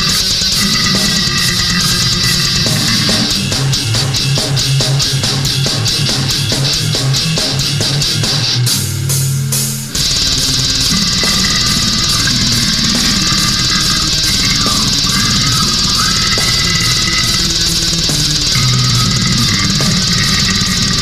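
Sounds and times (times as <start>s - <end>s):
bass guitar riff: 0.0s - 21.0s
distorted electric guitars: 0.0s - 21.0s
fast drums: 0.0s - 21.0s.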